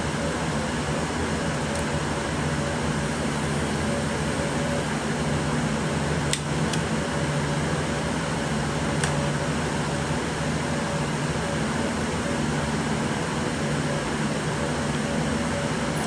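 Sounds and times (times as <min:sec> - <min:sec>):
cooling fans whirring: 0:00.0 - 0:16.0
low hum: 0:00.0 - 0:16.0.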